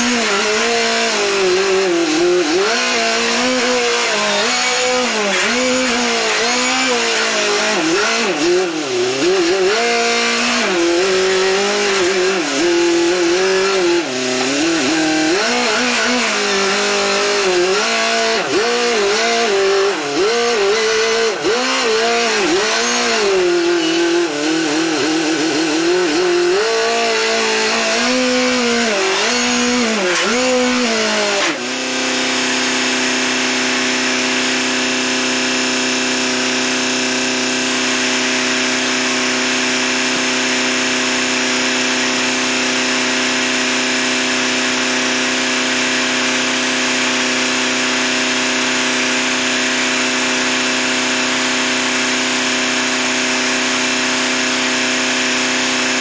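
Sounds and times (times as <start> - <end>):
engine revving and idling: 0.0 - 56.0.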